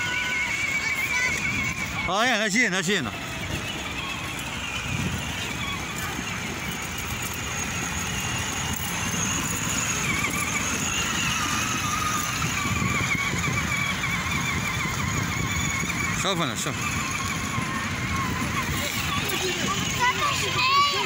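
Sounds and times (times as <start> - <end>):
toy car motor whine: 0.0 - 21.0
wheels rumbling over tiles: 0.0 - 21.0.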